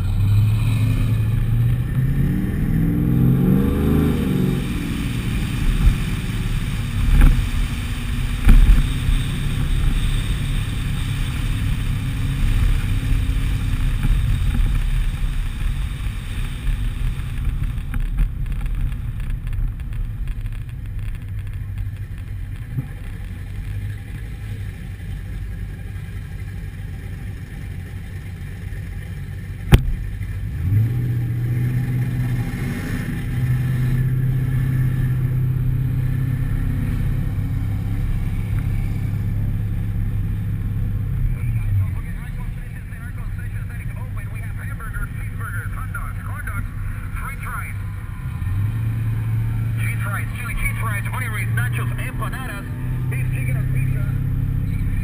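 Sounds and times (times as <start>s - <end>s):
car engine drone: 0.0s - 55.0s
road noise: 0.0s - 55.0s.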